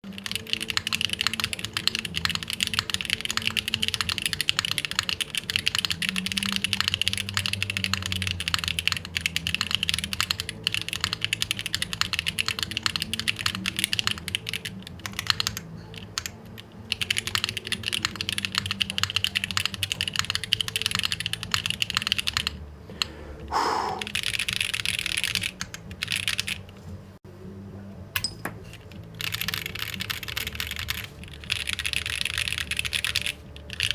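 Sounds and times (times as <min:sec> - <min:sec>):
mechanical keyboard typing: 0:00.1 - 0:22.6, 0:24.0 - 0:26.7, 0:28.7 - 0:33.9.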